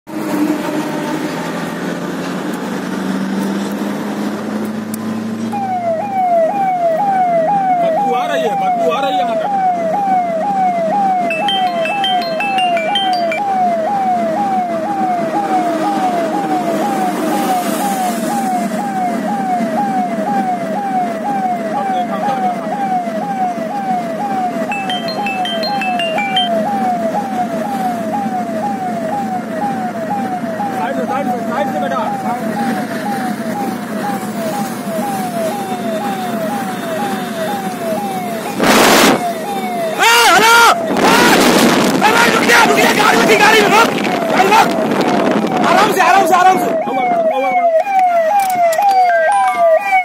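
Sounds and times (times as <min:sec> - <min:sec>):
car driving on highway: 0:00.1 - 0:11.5, 0:12.4 - 0:50.0
electronic siren wailing: 0:05.4 - 0:50.0.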